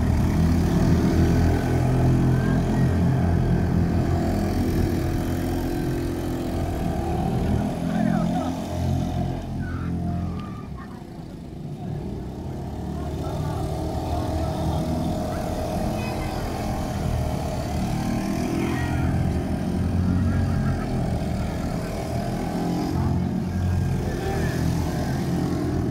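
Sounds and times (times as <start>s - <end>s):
small boat motors buzzing: 0.0s - 25.9s.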